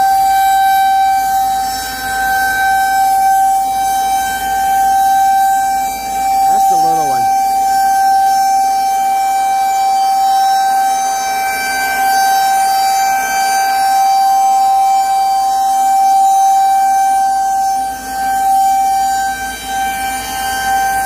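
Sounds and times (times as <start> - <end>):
warning siren steady tone: 0.0 - 21.0.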